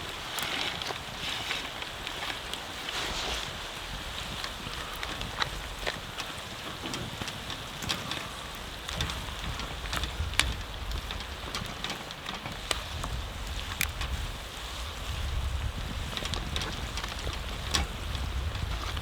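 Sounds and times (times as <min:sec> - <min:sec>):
bonfire crackling and popping: 0:00.0 - 0:19.0.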